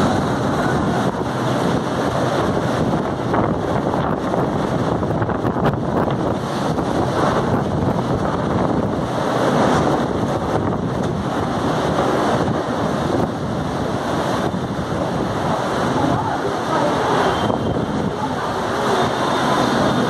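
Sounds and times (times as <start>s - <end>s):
heavy rain pouring: 0.0s - 20.0s
wind buffeting microphone: 0.0s - 20.0s.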